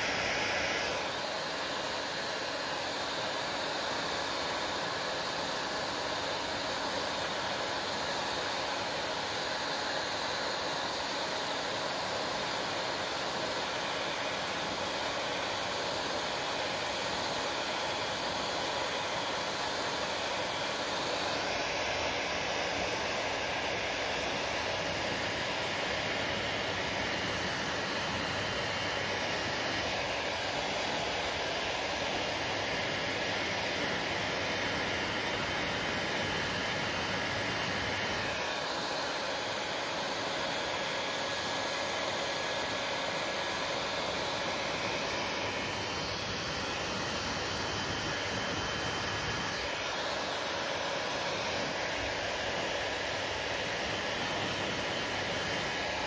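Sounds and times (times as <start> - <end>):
hair dryer blowing air: 0.0 - 56.0.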